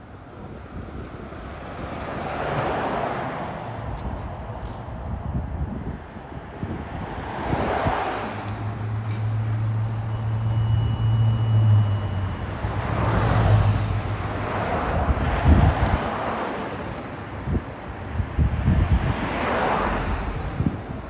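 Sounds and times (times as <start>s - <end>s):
vehicles passing on road: 0.0s - 21.0s
wind buffeting microphone: 0.0s - 21.0s
low engine hum: 3.2s - 21.0s.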